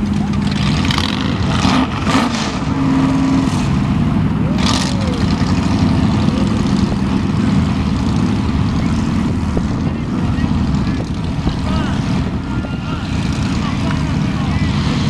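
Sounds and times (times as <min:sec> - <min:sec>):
drag car engines idling: 0:00.0 - 0:15.0.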